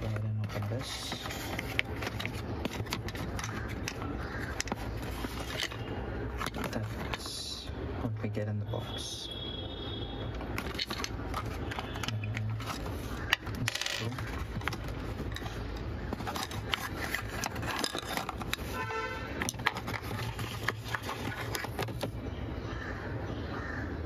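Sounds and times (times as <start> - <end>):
cardboard and plastic rustling: 0.0 - 7.4, 10.3 - 22.2.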